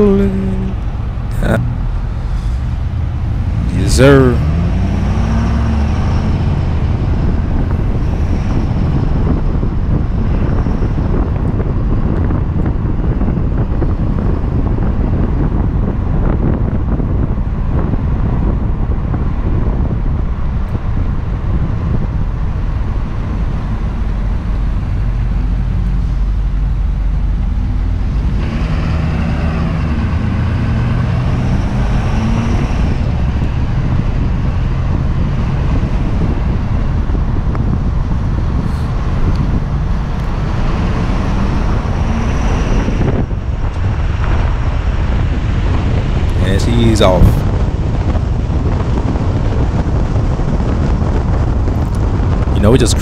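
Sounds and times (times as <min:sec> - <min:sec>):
pickup truck engine: 0:00.0 - 0:53.0
road noise: 0:00.0 - 0:53.0.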